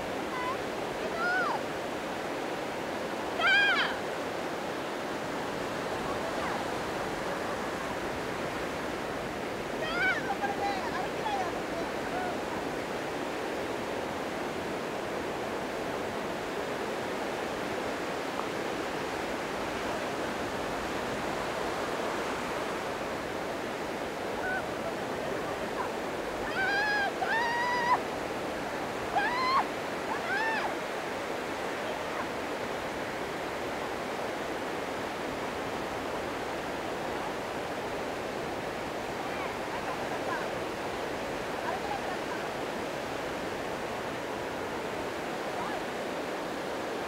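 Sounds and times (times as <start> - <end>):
small waves washing onto shore: 0.0 - 47.0.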